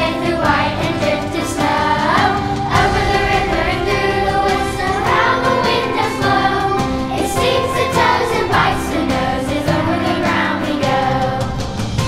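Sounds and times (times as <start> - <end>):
children's choir singing: 0.0 - 12.0.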